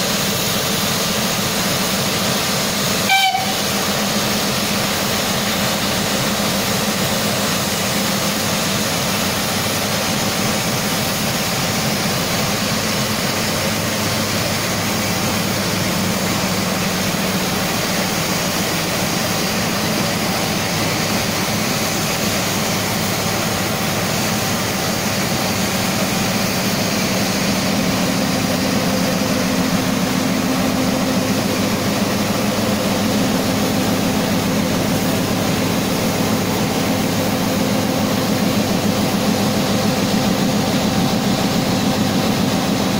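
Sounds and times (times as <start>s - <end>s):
steam venting hiss: 0.0s - 42.9s.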